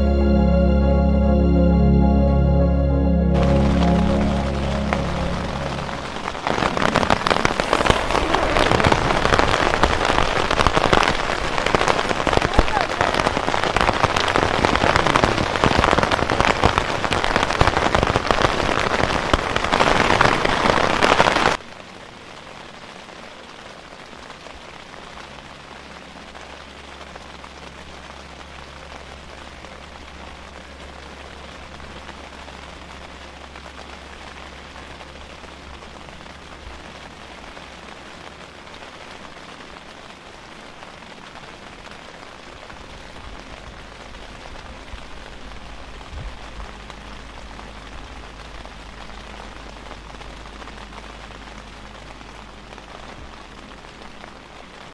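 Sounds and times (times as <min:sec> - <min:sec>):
rain on a tent: 0:00.0 - 0:54.9
hail and rain clattering: 0:05.5 - 0:54.9.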